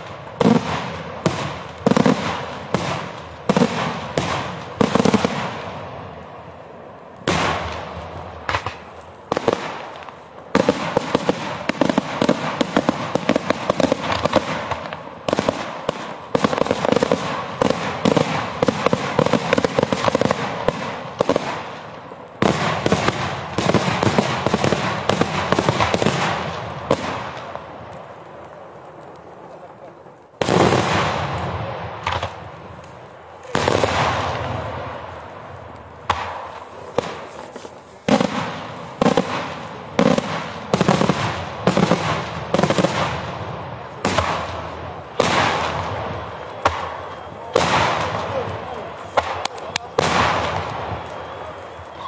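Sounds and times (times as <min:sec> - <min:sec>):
fireworks bangs: 0:00.0 - 0:52.0
rapid crackling fireworks: 0:00.0 - 0:52.0.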